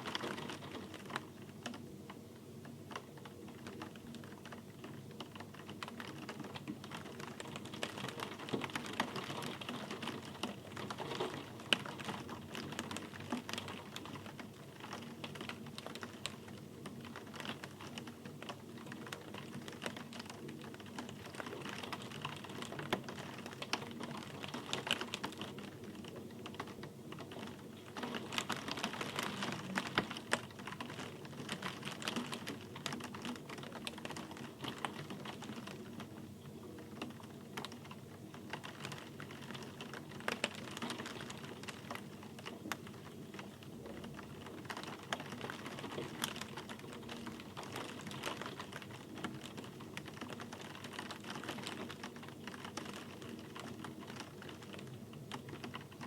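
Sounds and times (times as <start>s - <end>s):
rain pattering on hard surface: 0.0s - 56.0s.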